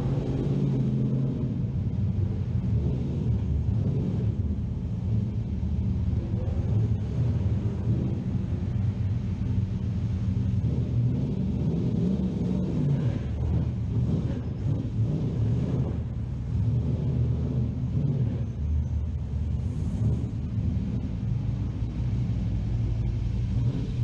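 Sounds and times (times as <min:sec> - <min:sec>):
race car engine burbling: 0:00.0 - 0:24.0.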